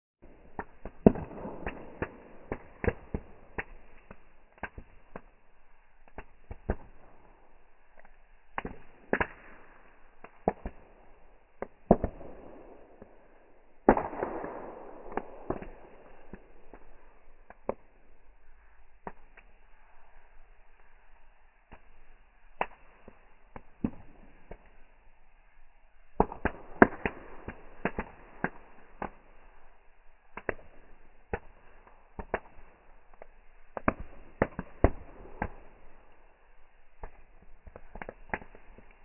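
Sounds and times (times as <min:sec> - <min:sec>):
fireworks cracking and banging: 0:00.2 - 0:39.0.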